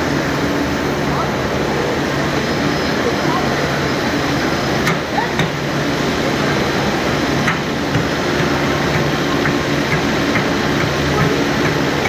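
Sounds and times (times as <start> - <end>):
factory machinery droning: 0.0 - 12.0.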